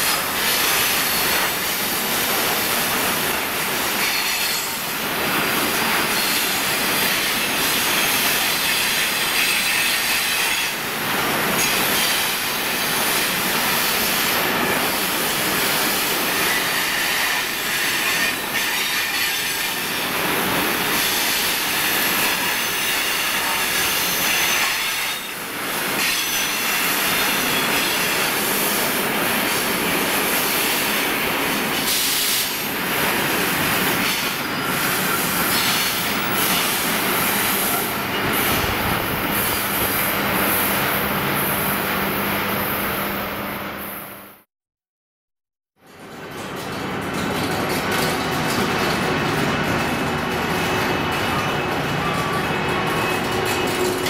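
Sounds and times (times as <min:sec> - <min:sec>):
train wheels rumbling on rails: 0:00.0 - 0:43.9, 0:45.8 - 0:54.0.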